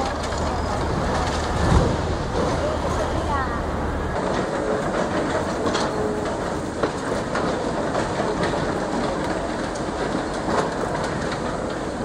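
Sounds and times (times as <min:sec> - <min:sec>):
heavy machine noise: 0:00.0 - 0:12.0.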